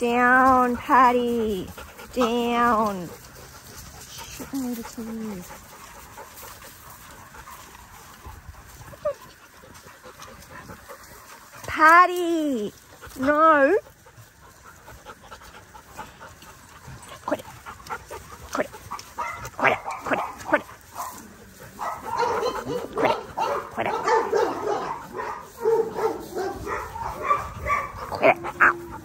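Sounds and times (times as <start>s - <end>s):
dogs barking and yipping: 0.1s - 29.0s.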